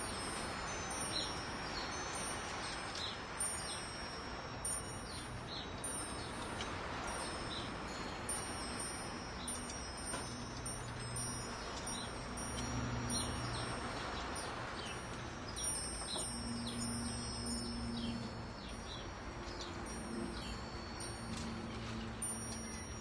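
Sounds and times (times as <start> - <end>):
metal wind chimes ringing: 0.0 - 23.0
steady hiss: 0.0 - 23.0.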